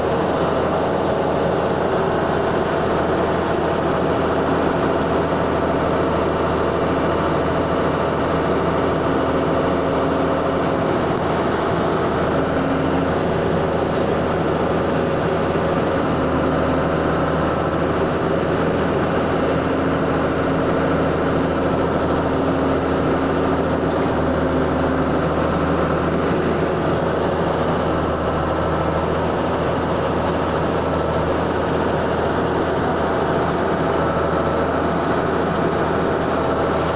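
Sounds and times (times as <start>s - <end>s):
ground drill machine drone: 0.0s - 36.9s.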